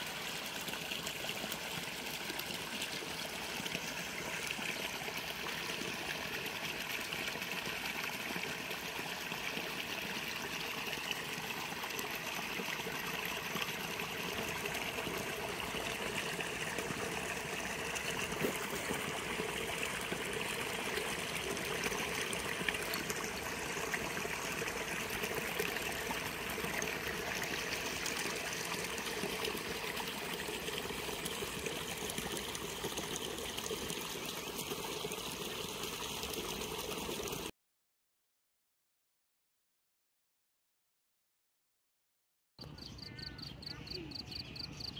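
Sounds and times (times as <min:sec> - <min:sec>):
water trickling in a ditch: 0:00.0 - 0:37.5.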